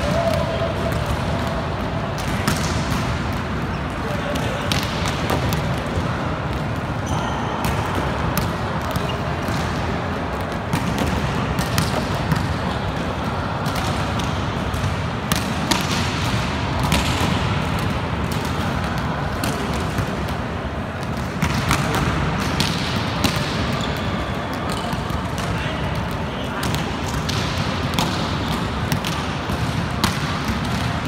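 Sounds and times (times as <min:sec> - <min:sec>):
sports hall background noise: 0:00.0 - 0:31.0
volleyballs smacked and bouncing: 0:00.0 - 0:31.0.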